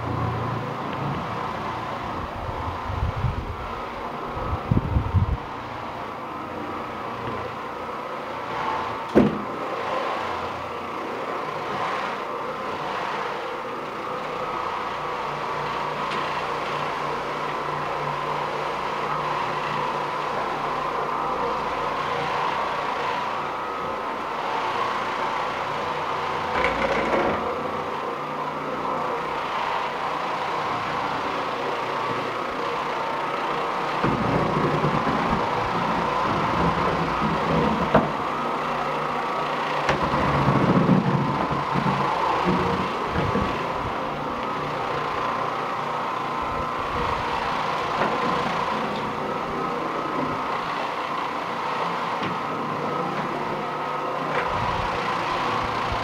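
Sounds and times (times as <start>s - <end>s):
floor machine motor running: 0.0s - 56.0s.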